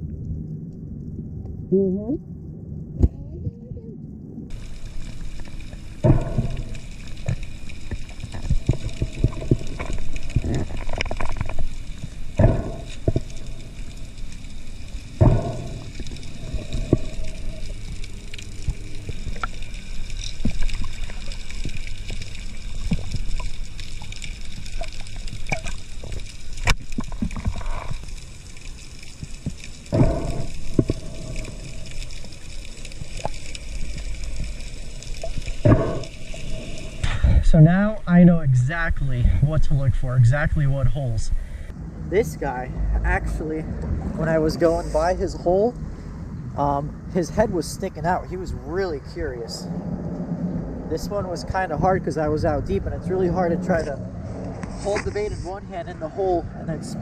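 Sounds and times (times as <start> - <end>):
water sloshing and gurgling underwater: 0.0 - 57.0.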